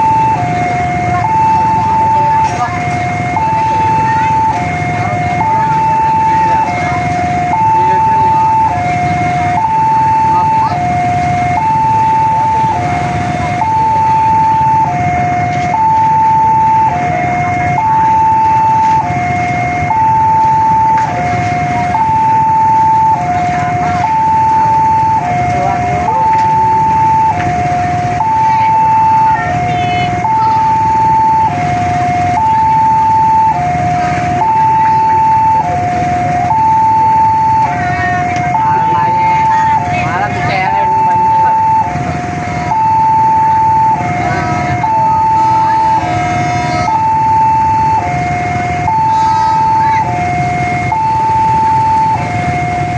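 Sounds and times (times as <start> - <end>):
road traffic: 0.0 - 52.9
two-tone crossing alarm: 0.0 - 52.9.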